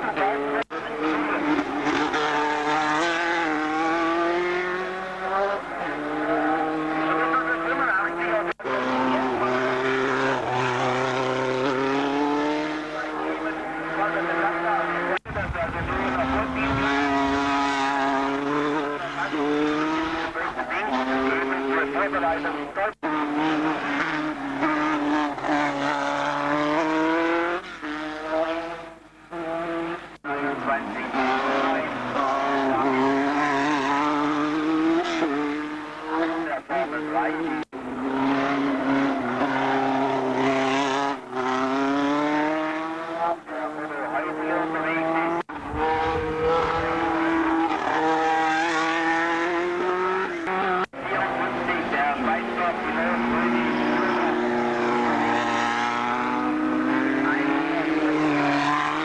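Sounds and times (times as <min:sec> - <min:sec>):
racing car engine at high revs: 0:00.0 - 0:59.0.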